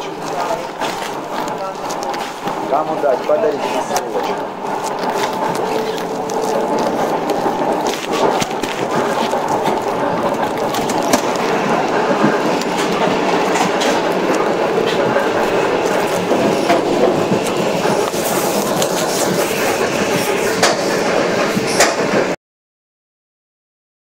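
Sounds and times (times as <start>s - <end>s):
faint passenger voices: 0.0s - 22.0s
wheel clicks and knocks: 0.0s - 22.2s
train running rumble: 0.0s - 22.4s.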